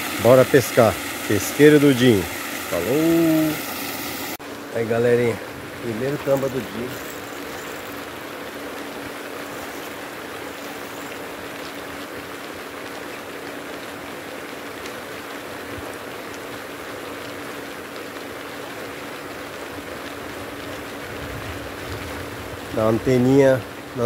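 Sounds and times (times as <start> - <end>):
fountain splashing water: 0.0 - 24.0.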